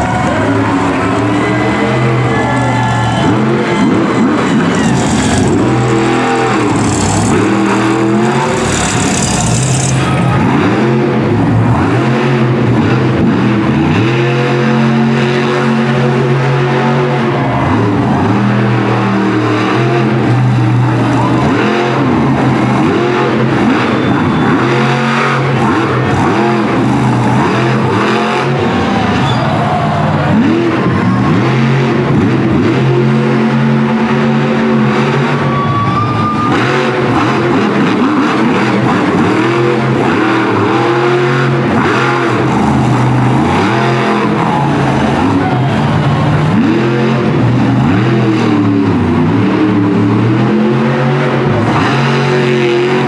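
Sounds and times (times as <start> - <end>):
truck engine revving hard: 0.0 - 53.0.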